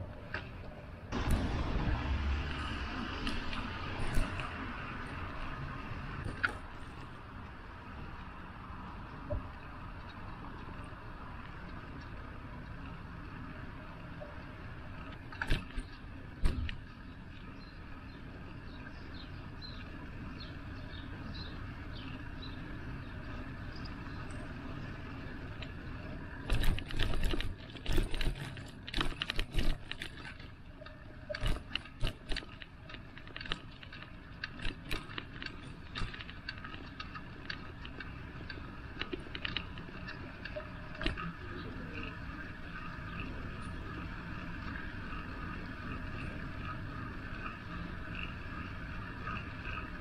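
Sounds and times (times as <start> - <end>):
bike rattling and knocking: 0.0 - 7.2, 9.2 - 50.0
bicycle road noise: 0.0 - 50.0
wind: 0.0 - 50.0.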